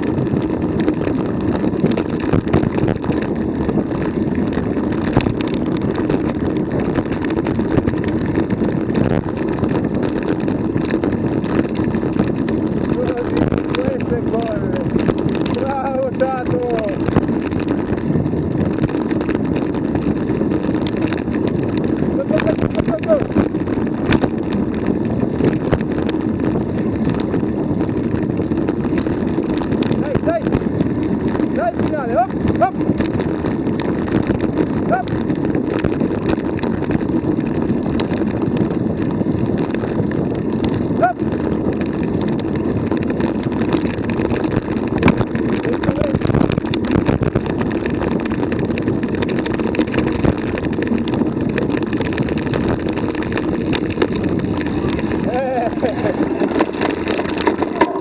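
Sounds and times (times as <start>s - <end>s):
bike clicking over bumps: 0.0s - 58.0s
bike tyres rolling on dirt: 0.0s - 58.0s
wind on microphone: 0.0s - 58.0s.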